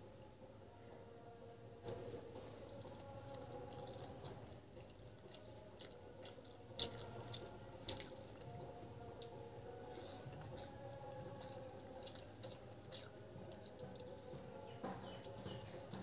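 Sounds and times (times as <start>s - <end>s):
faint steady hum: 0.0s - 16.0s
fingers squishing wet rice: 1.8s - 16.0s.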